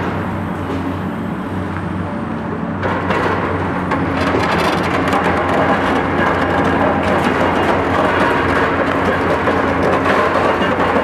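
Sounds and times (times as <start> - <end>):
excavator diesel engines running: 0.0 - 11.0.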